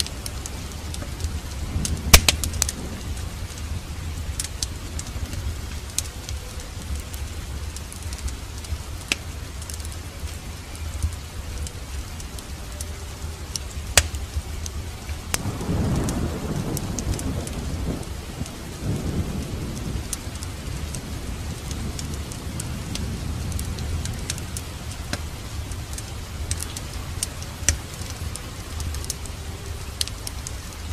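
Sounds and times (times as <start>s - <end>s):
steady rain: 0.0s - 30.9s
thunder rumbling: 0.0s - 30.9s
wood fire crackling and popping: 0.0s - 30.9s.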